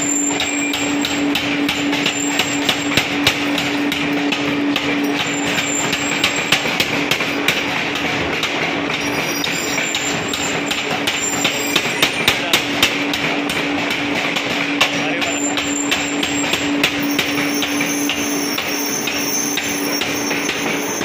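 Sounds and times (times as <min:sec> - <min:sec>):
machine hum: 0:00.0 - 0:18.6
power hammer blows on steel: 0:00.0 - 0:21.0.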